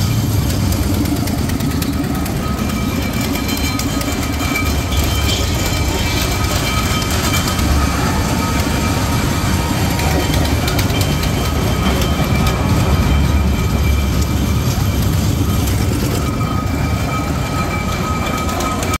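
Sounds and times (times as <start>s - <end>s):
rapid irregular clattering: 0.0s - 19.0s
ride cars rumbling on steel track: 0.0s - 19.0s.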